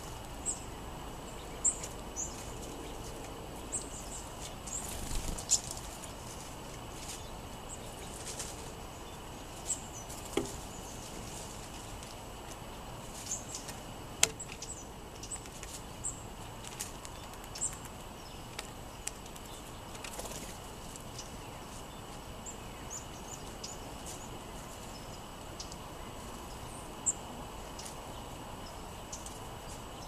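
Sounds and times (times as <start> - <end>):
songbirds chipping: 0.0 - 30.0.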